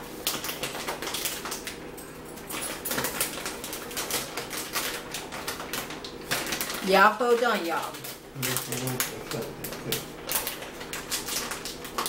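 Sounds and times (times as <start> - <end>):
plastic snack package crackling: 0.2 - 1.8, 2.5 - 12.0.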